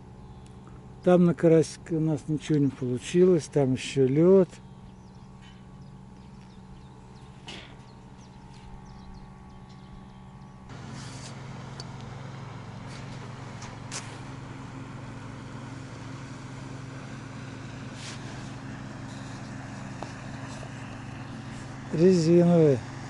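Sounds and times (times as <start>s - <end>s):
outboard motors droning: 0.0s - 23.0s.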